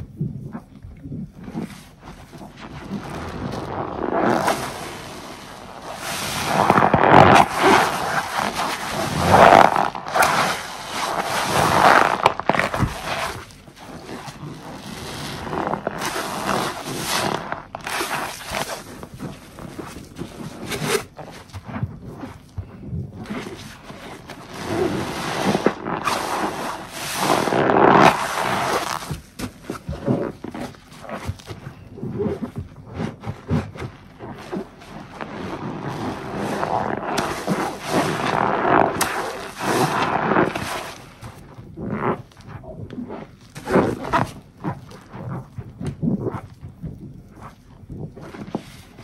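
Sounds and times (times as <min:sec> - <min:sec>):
foamy sponge squelching: 0:00.0 - 0:49.0.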